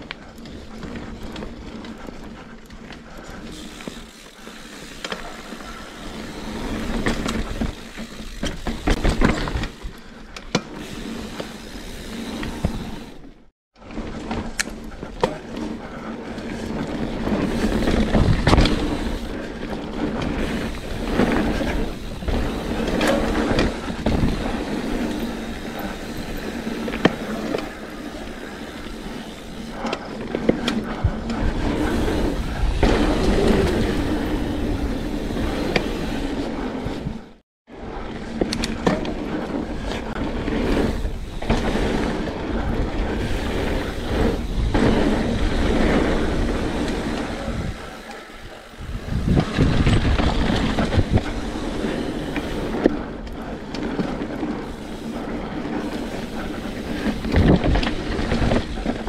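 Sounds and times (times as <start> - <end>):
bike rattling over bumps: 0.0 - 59.0
tyres rolling on dirt: 0.0 - 59.0.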